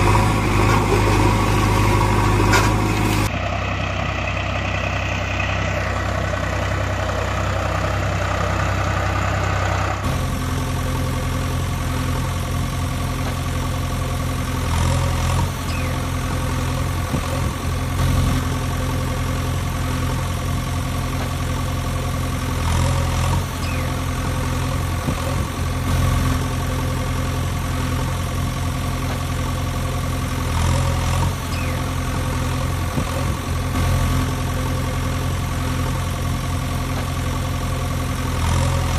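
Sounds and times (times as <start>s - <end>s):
engine idling sound effect: 0.0s - 38.9s.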